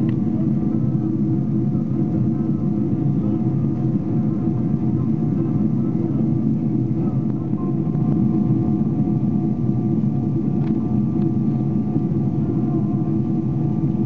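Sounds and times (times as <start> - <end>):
airliner engine roar: 0.0 - 14.0
faint whine: 0.0 - 14.0.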